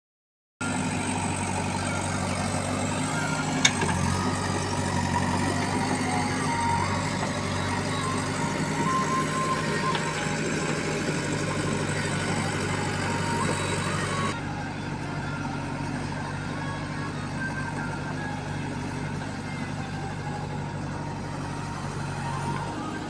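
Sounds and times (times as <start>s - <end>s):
diesel engine idling: 0.6s - 23.0s.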